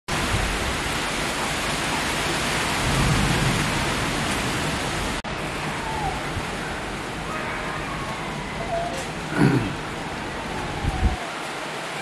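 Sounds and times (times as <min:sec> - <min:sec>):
heavy rain downpour: 0:00.1 - 0:12.0.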